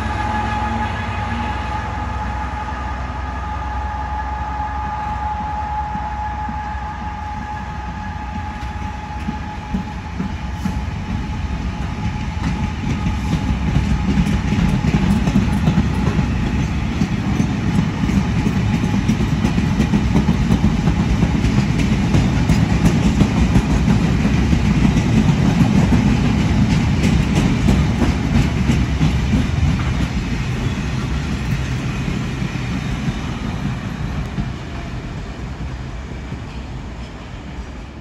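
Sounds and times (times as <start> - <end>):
freight train passing: 0.0 - 38.0.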